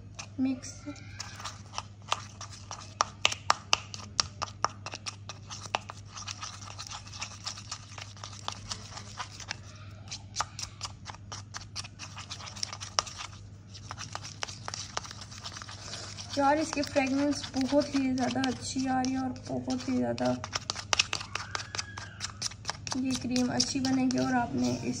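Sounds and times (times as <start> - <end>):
spatula scraping plastic bowl: 0.0 - 25.0.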